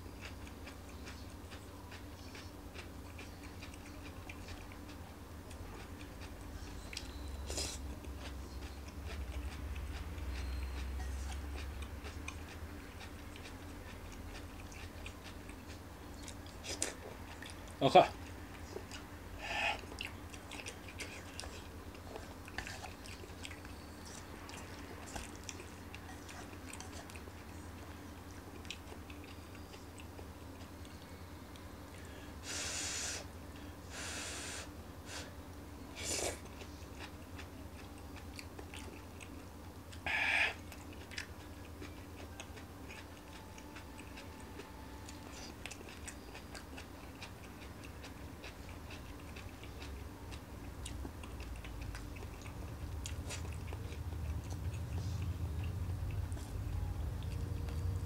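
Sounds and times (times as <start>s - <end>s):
soft chewing: 0.0s - 58.0s.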